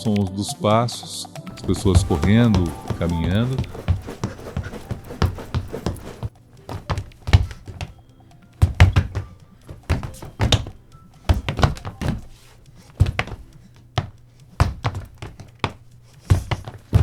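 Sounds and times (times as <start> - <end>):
footsteps dull thuds: 1.5 - 17.0.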